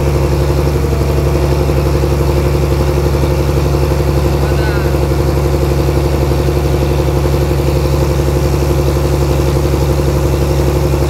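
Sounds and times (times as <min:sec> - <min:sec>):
generator engine droning: 0:00.0 - 0:11.0.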